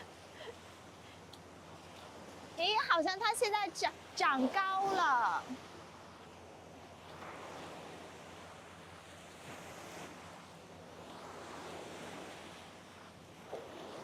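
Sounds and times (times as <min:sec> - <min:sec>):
sea waves washing onto shore: 0:00.0 - 0:14.0.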